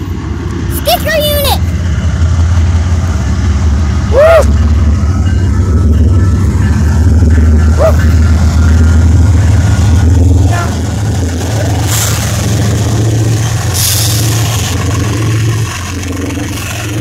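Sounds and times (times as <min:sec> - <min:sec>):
locomotive engine rumbling: 0:00.0 - 0:17.0.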